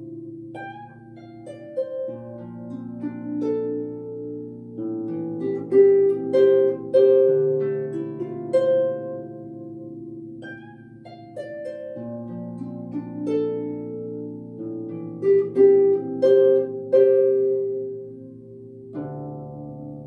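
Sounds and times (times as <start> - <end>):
harp playing: 0.0 - 20.0.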